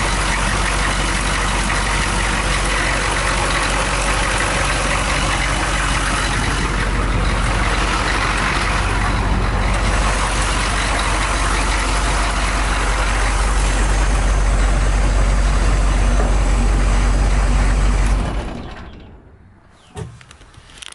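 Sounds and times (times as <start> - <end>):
diesel engine idling: 0.0 - 19.6.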